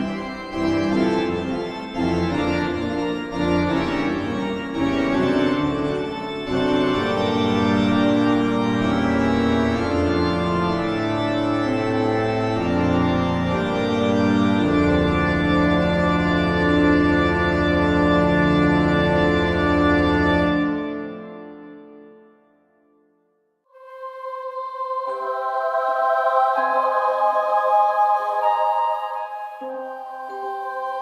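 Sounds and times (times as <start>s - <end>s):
horror organ chords: 0.0s - 21.8s, 23.8s - 31.0s.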